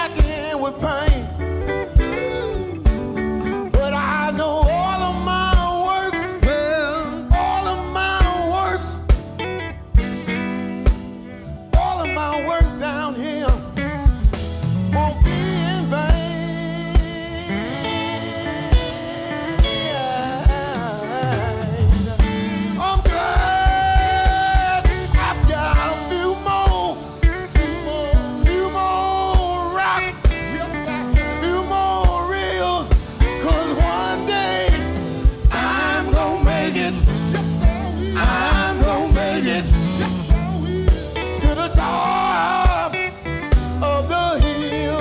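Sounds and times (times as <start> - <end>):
band playing: 0.0 - 45.0
deep bass notes: 0.0 - 45.0
man singing gospel: 0.0 - 45.0
low drum beat: 0.1 - 45.0.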